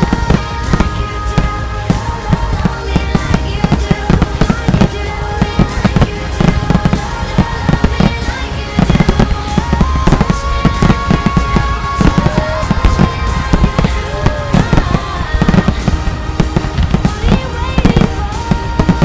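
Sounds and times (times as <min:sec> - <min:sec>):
firework bangs: 0:00.0 - 0:19.0
pop song playing: 0:00.0 - 0:19.0.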